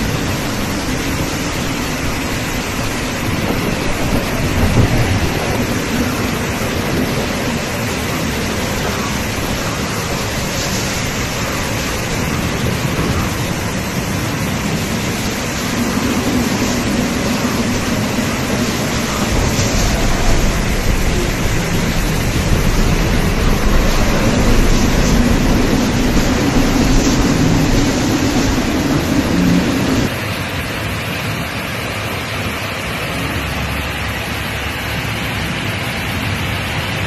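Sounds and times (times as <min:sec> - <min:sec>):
strong wind: 0:00.0 - 0:37.0
torrential rain: 0:00.0 - 0:37.0.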